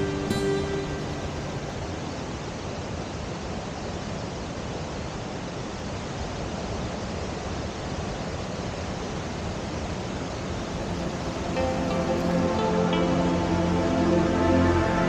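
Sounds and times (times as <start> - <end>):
waterfall rushing over boulders: 0.0 - 15.0.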